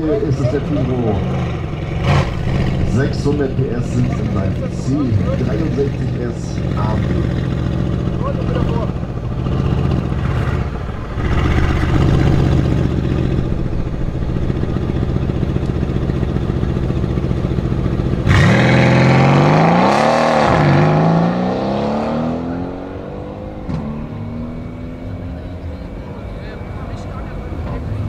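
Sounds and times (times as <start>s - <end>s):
car engine revving and accelerating: 0.0s - 28.0s.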